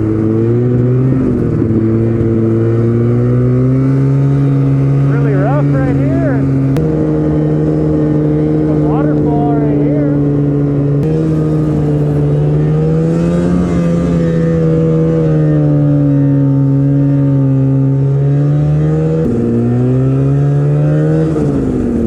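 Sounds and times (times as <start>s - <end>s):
snowmobile two-stroke engine: 0.0s - 22.0s.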